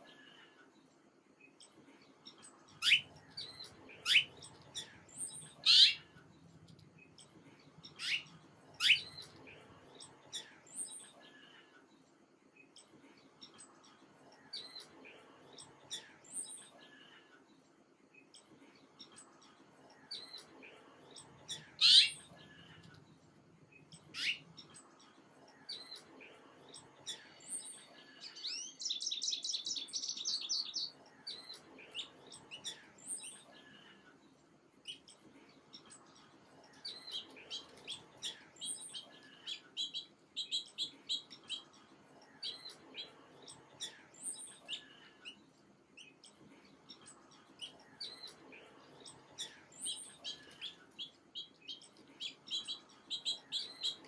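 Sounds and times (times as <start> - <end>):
small songbirds chirping: 0.0 - 54.0.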